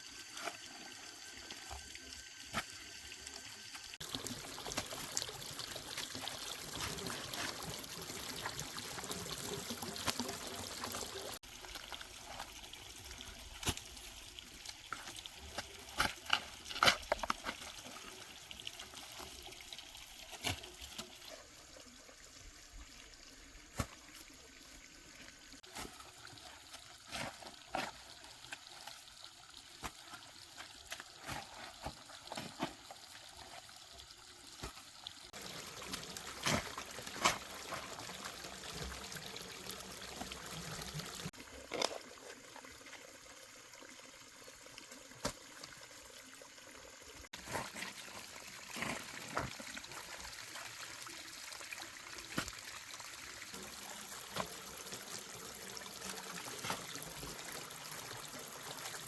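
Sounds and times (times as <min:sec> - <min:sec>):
water trickling and pouring: 0:00.0 - 0:59.0.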